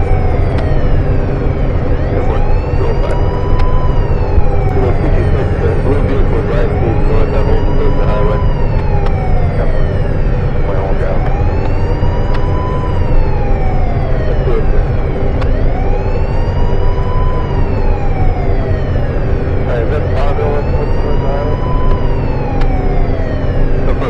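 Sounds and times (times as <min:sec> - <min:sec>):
emergency siren wailing: 0:00.0 - 0:24.0
low rumble of road noise: 0:00.0 - 0:24.0.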